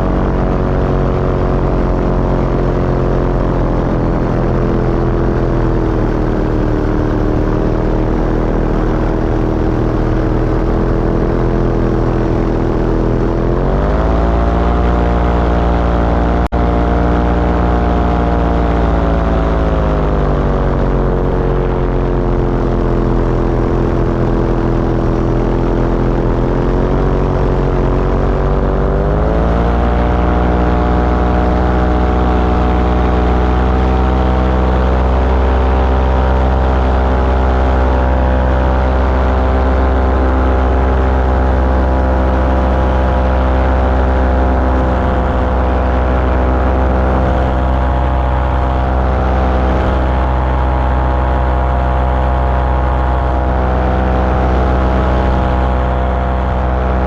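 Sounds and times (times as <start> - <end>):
propeller aircraft engine: 0.0 - 57.0.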